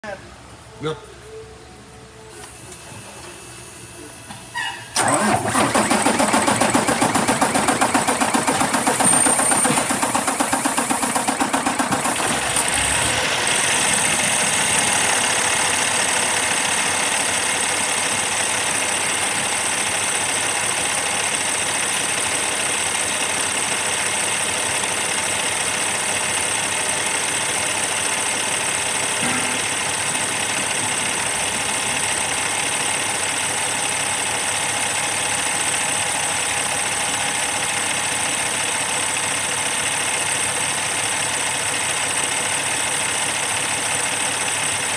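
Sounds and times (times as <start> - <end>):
diesel engine starting and idling: 4.5 - 44.9.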